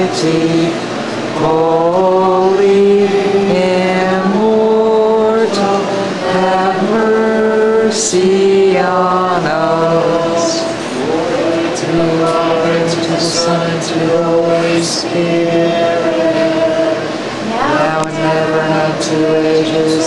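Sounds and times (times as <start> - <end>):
liturgical chant: 0.0 - 20.0.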